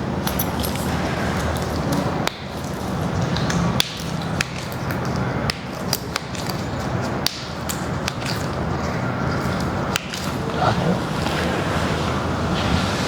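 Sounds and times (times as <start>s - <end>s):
joints cracking and clicking: 0.2s - 10.8s.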